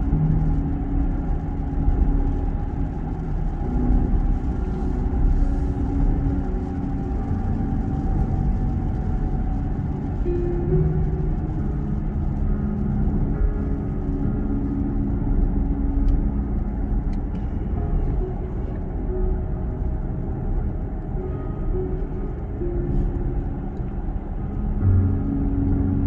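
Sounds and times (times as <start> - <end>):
road and tyre rumble on wet road: 0.0 - 26.0.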